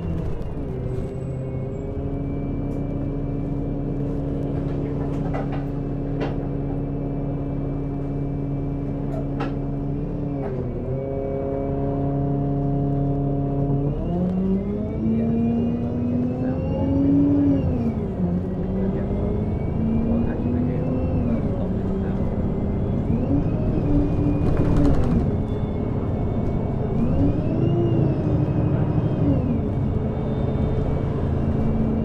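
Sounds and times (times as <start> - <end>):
bus engine: 0.0 - 32.0.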